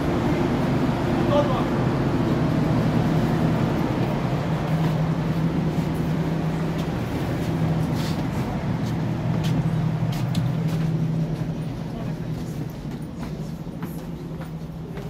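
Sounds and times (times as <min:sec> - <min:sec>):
train carriage mechanical hum: 0:00.0 - 0:15.0.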